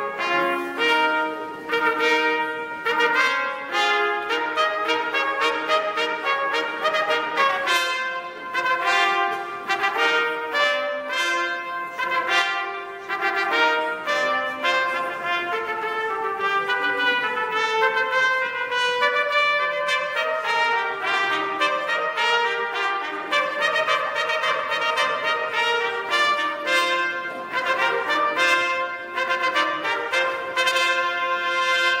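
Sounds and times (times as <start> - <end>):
brass band playing: 0.0 - 32.0
lower brass: 0.0 - 32.0
trumpets playing melody: 0.0 - 32.0.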